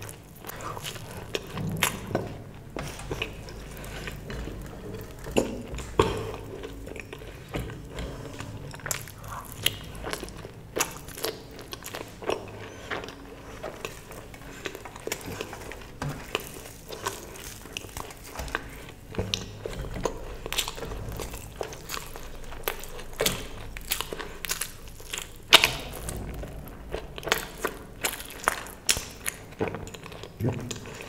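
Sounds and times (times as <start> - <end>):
person chewing crisp food: 0.0 - 31.0.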